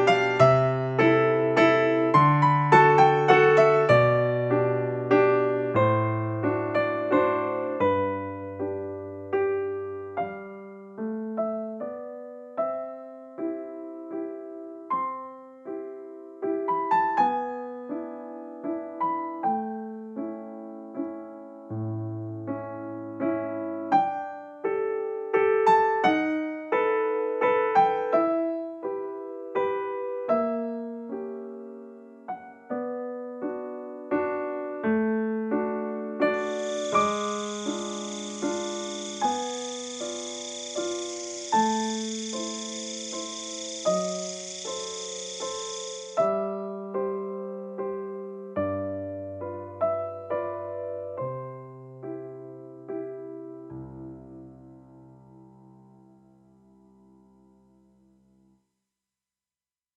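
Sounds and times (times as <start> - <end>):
soft solo piano music: 0.0 - 57.5.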